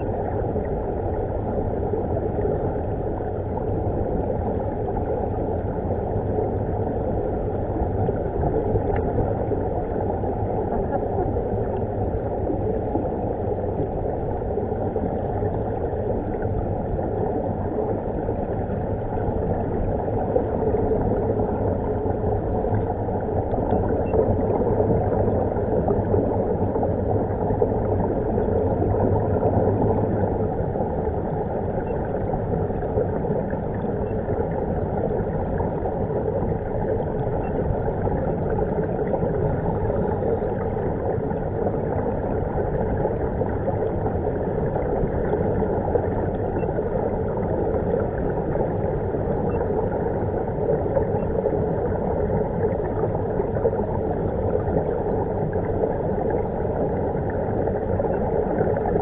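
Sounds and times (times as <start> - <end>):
underwater air bubbling: 0.0 - 59.0.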